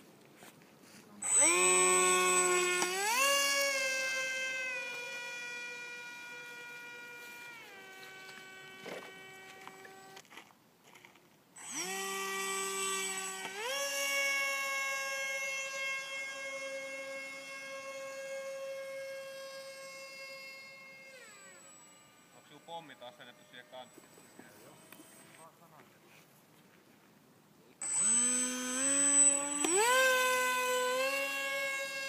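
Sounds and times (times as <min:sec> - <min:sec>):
electric motor and propeller whining: 0:00.9 - 0:10.5, 0:11.6 - 0:25.8, 0:27.8 - 0:32.0.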